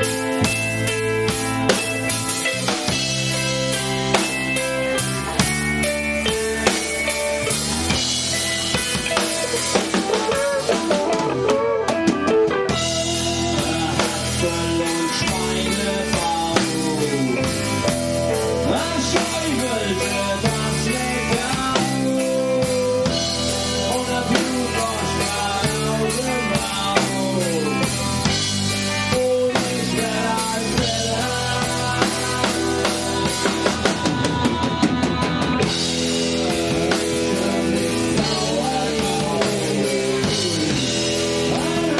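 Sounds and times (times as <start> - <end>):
drum kit beat: 0.0 - 41.9
rock band playing live: 0.0 - 41.9.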